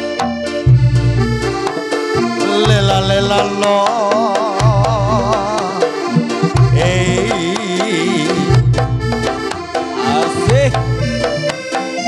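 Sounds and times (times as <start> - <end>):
deep bass notes: 0.0 - 3.7, 4.6 - 7.6, 8.3 - 11.7
reedy wavering melody: 0.0 - 3.7, 5.2 - 12.0
hand drum strokes: 1.4 - 12.0.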